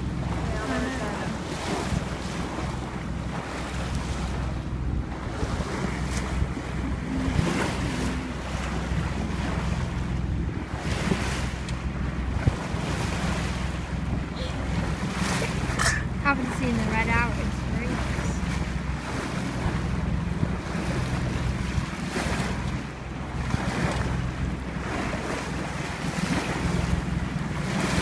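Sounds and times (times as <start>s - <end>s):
boat engine running: 0.0s - 28.0s
water rushing past: 0.0s - 28.0s
wind buffeting microphone: 0.0s - 28.0s.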